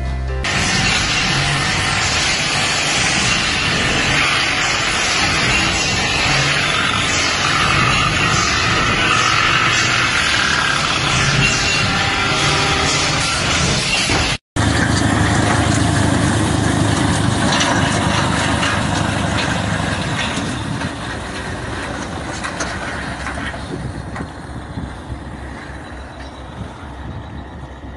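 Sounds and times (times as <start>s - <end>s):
tractor engine rumbling under load: 0.0s - 27.9s.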